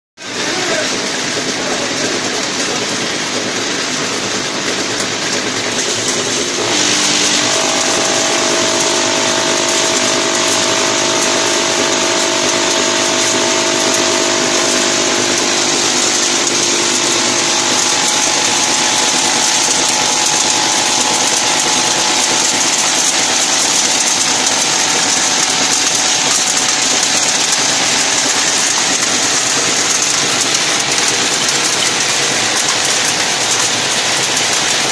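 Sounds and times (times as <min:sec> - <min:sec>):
packing machine clattering: 0:00.3 - 0:34.9.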